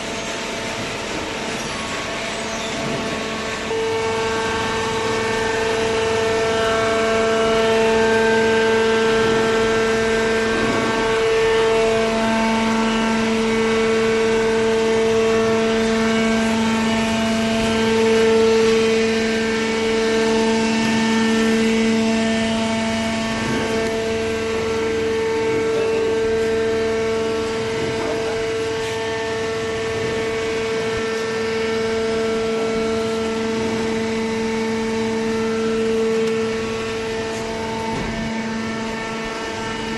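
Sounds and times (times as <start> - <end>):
baler machine humming drone: 0.0 - 39.9.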